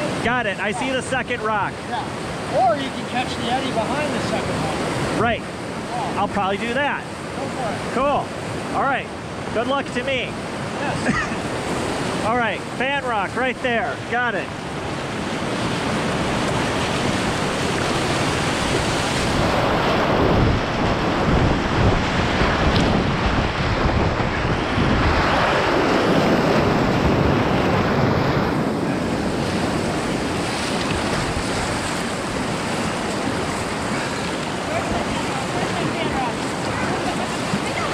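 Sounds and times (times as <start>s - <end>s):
whitewater rushing and splashing: 0.0s - 37.9s.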